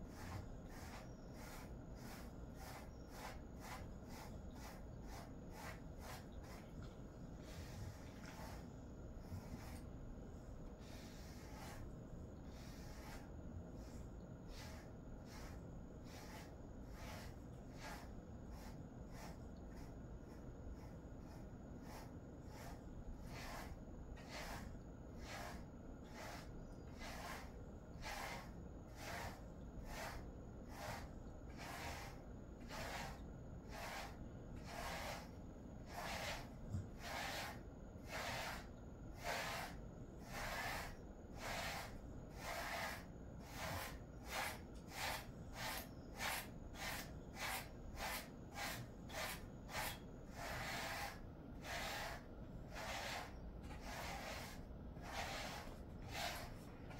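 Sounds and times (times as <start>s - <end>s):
brush swishing through fur: 0.1s - 10.0s, 10.8s - 56.9s.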